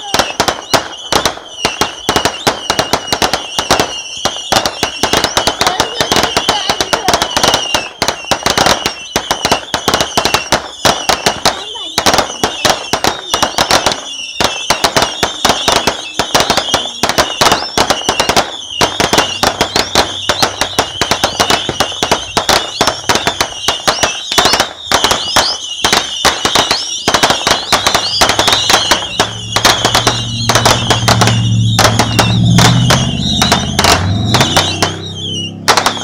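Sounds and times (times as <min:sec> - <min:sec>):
fireworks popping and crackling: 0:00.0 - 0:36.0
high wavering whistle: 0:00.0 - 0:36.0.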